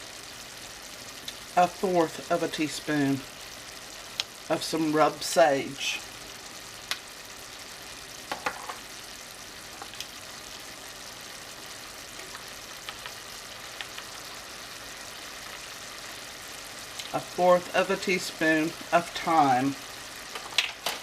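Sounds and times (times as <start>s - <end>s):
vegetables sizzling in a saucepan: 0.0s - 21.0s.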